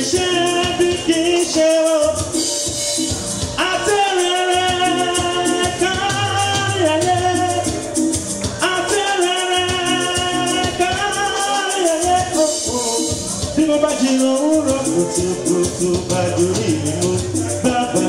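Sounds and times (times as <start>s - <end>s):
person singing a song: 0.0s - 2.4s, 3.6s - 18.0s
steady percussion: 0.0s - 18.0s.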